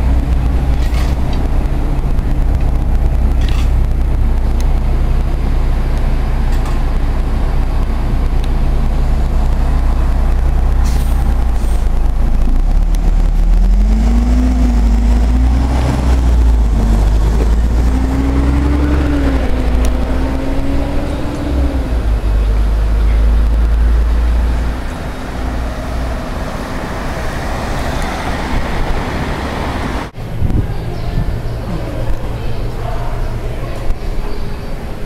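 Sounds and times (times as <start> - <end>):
vehicle engine pulling away: 0.0 - 30.1
heavy low rumble: 0.0 - 35.0.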